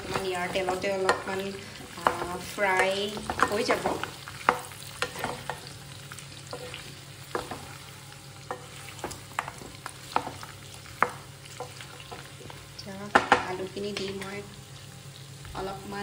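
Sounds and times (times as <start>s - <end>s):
meat and potatoes sizzling in fat: 0.0s - 16.0s.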